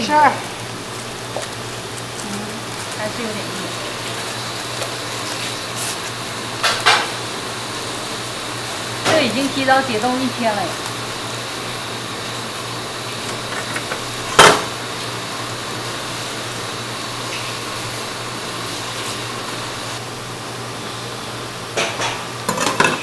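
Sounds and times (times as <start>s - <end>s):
aluminium foil crackling: 0.0s - 20.0s
kitchen ventilation hum: 0.0s - 23.0s.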